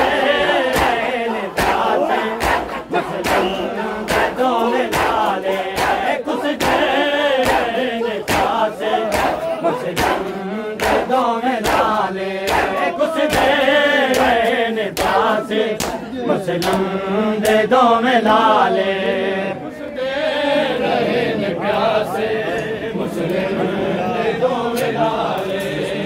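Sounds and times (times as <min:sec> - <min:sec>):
men chanting together: 0:00.0 - 0:26.0.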